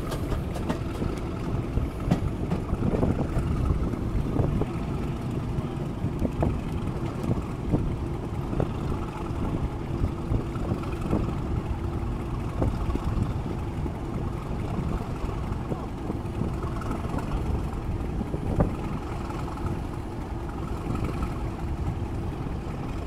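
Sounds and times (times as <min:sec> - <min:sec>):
diesel locomotive engine running: 0:00.0 - 0:23.0
wheels clicking on track: 0:00.0 - 0:23.0
wind buffeting microphone: 0:00.0 - 0:23.0.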